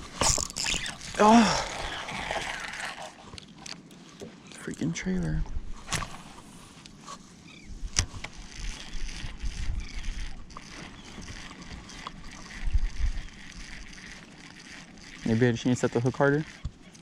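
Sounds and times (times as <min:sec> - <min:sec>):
wind and water rumbling: 0:00.0 - 0:17.0.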